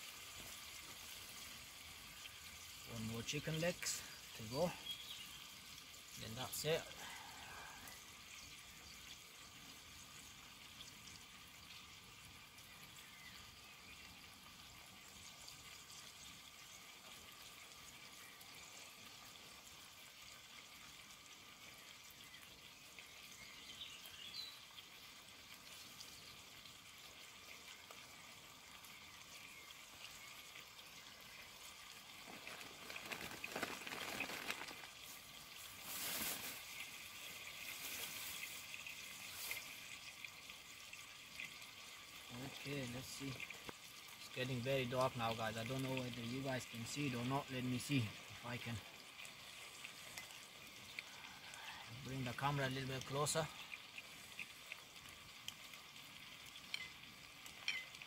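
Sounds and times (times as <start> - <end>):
pot hissing on camping stove: 0.0 - 58.0.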